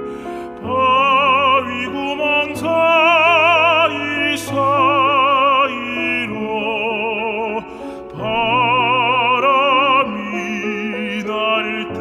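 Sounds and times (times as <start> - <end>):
operatic tenor singing: 0.4 - 12.0.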